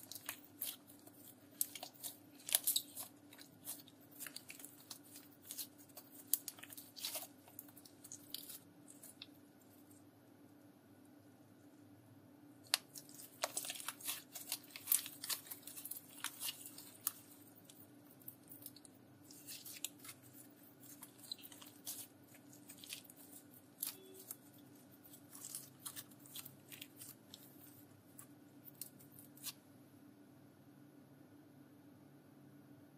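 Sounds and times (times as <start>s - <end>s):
slime crackling and popping: 0.0s - 9.8s, 12.6s - 29.6s.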